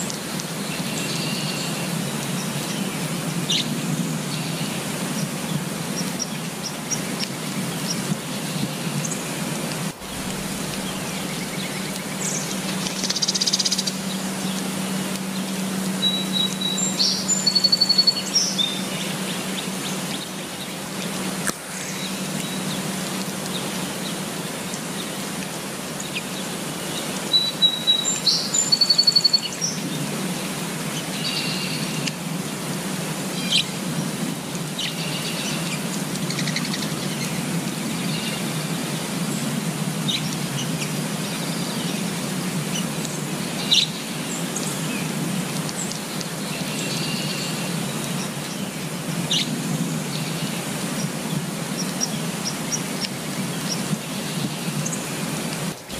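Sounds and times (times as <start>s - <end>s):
rain hiss: 0.0s - 55.9s
songbirds chirping and trilling: 0.0s - 55.9s.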